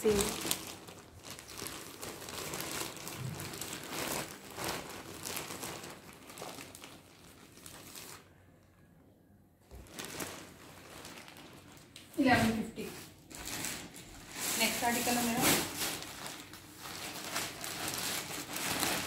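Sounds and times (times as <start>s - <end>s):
plastic bag crinkling: 0.0s - 8.7s, 9.7s - 19.0s.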